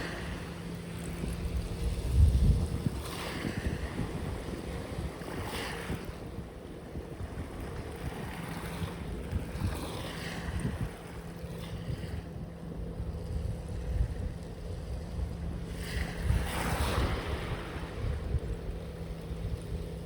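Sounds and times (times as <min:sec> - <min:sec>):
sea waves washing in: 0:00.0 - 0:20.0
wind rumbling on microphone: 0:00.0 - 0:20.0.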